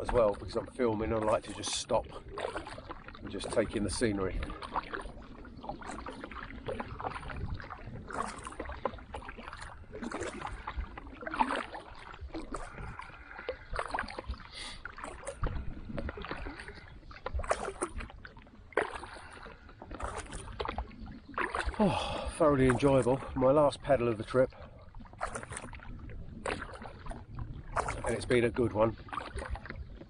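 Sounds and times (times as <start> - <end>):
water splashing around kayak: 0.0 - 30.0.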